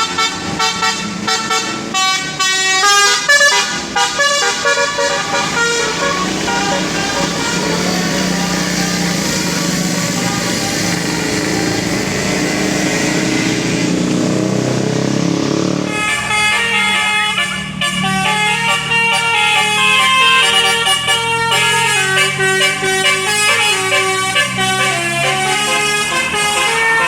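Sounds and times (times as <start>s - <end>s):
bus horn playing a melody: 0.0s - 14.1s, 15.8s - 27.0s
loud traffic noise: 0.0s - 27.0s.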